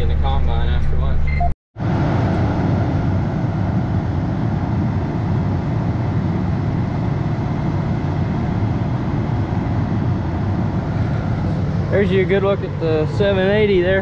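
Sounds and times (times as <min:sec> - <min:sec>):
combine engine running: 0:01.8 - 0:14.0.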